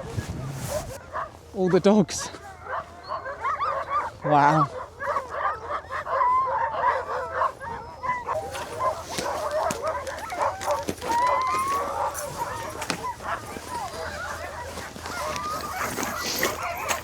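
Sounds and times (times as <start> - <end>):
dogs howling: 0.0 - 17.0
sled dogs barking and yipping: 0.0 - 17.0.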